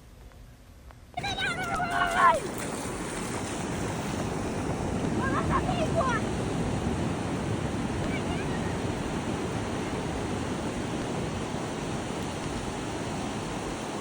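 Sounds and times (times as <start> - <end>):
waves breaking on beach: 1.2 - 14.0.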